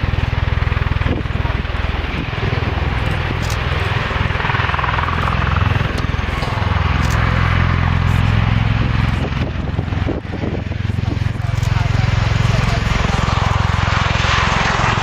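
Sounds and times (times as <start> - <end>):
tilt-rotor aircraft flying past: 0.0 - 15.0.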